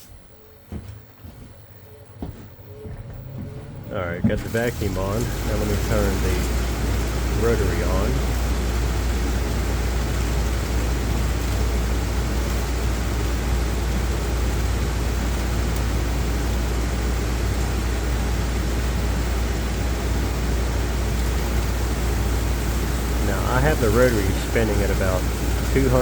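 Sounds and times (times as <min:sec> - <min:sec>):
dust-collection vacuum running: 0:00.0 - 0:26.0.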